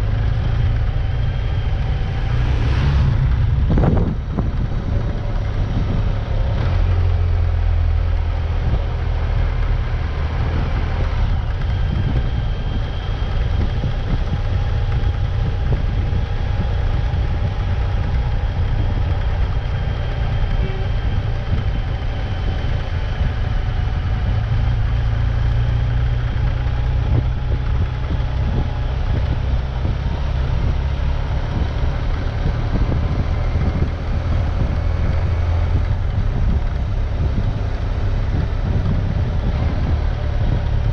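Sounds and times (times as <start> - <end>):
road noise: 0.0 - 40.9
vehicle engine running: 0.0 - 40.9
wind noise on microphone: 0.0 - 40.9.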